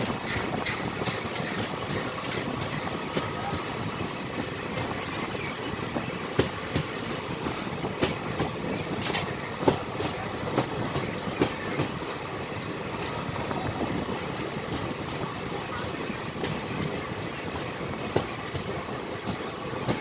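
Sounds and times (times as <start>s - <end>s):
clacks over rail joints: 0.0s - 20.0s
train wheels rumbling: 0.0s - 20.0s.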